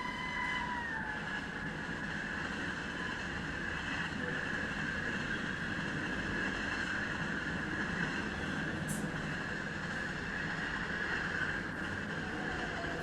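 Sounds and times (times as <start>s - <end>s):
train rolling on track: 0.0s - 13.0s.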